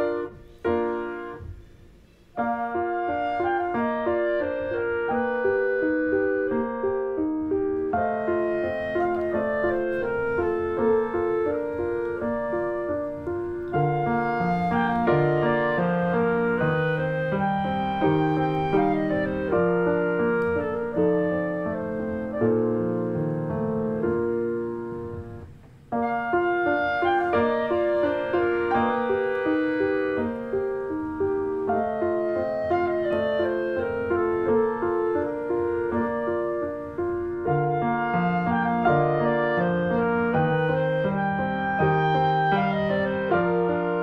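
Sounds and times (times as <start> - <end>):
instrumental piano music: 0.0 - 44.0.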